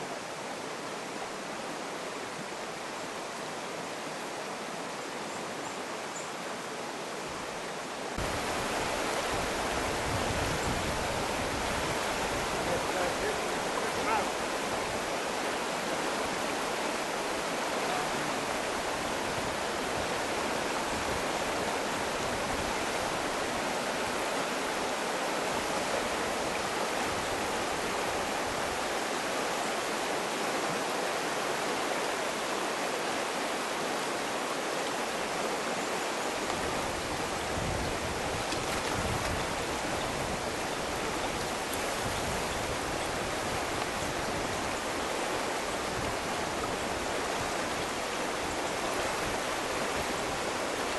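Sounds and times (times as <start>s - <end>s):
river water rushing over stones: 0.0s - 50.9s.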